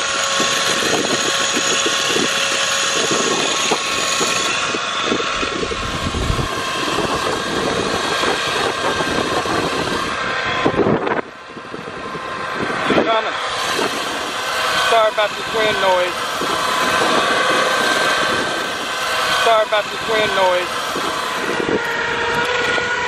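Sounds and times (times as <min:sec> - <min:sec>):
electric winch motor whining: 0:00.0 - 0:23.0.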